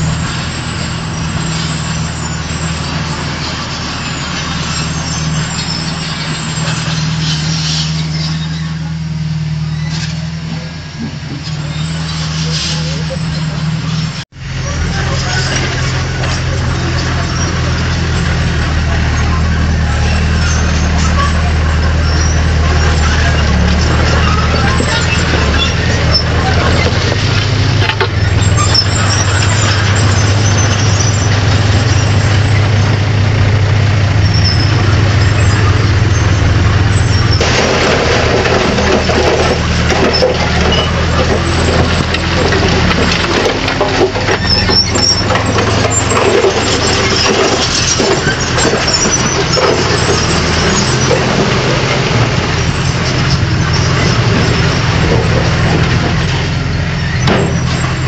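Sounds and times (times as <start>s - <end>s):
diesel machine engine drone: 0.0s - 58.0s
rattling clattering machinery: 0.0s - 58.0s.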